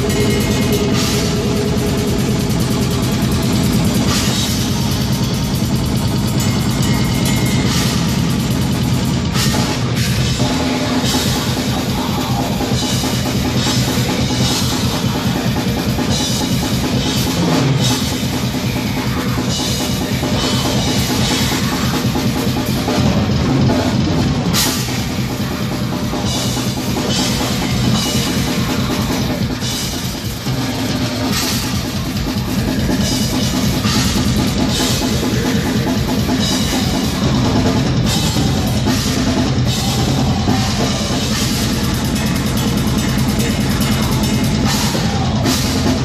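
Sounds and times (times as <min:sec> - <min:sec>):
cymbals crashing: 0:00.0 - 0:23.6, 0:24.3 - 0:46.0
heavy metal band playing live: 0:00.0 - 0:46.0.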